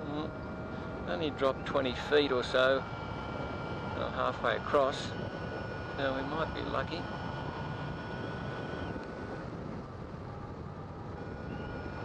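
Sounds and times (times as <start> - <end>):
faint steady high tone: 0.0 - 12.0.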